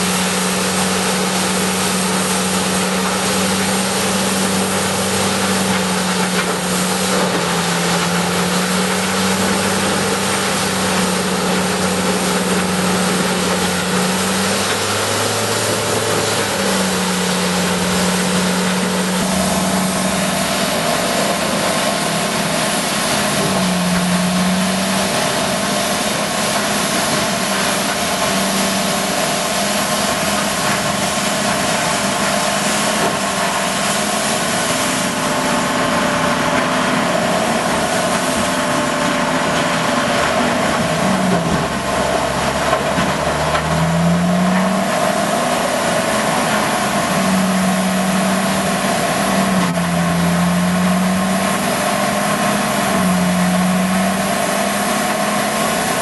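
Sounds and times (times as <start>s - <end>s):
diesel engine running hard: 0.0s - 56.0s
grinder grinding logs: 0.0s - 56.0s.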